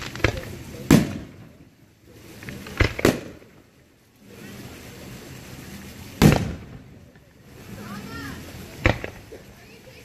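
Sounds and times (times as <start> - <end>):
firework shells bursting: 0.0 - 9.8
fireworks show noise: 0.0 - 10.0.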